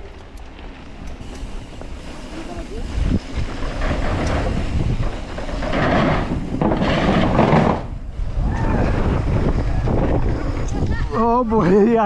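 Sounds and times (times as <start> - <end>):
tyres rolling over dirt: 0.0 - 11.9
bike rattling: 0.0 - 12.0.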